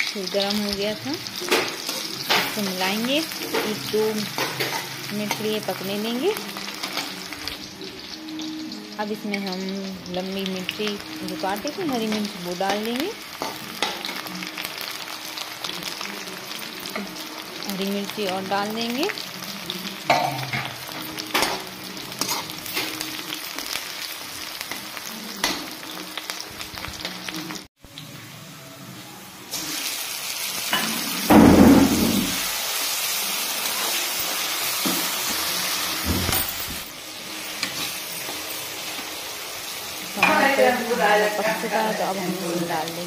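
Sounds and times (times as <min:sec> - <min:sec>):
vegetables sizzling in hot oil: 0:00.0 - 0:43.0.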